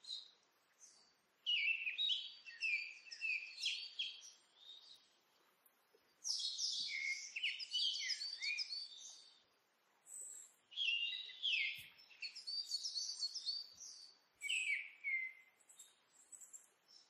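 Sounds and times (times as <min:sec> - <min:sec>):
birds singing: 0:00.0 - 0:05.2, 0:06.1 - 0:17.0.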